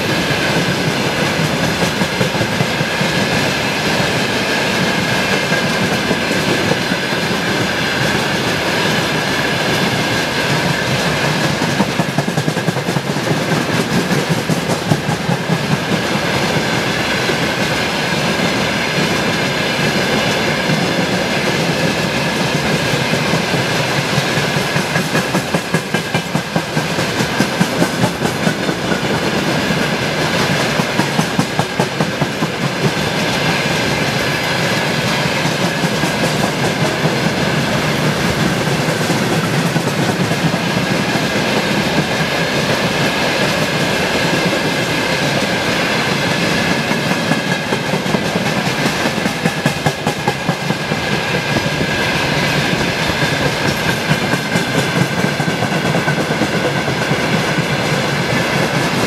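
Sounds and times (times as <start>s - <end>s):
train wheels rumbling on rail: 0.0s - 59.0s
wheels clicking over rail joints: 0.0s - 59.0s.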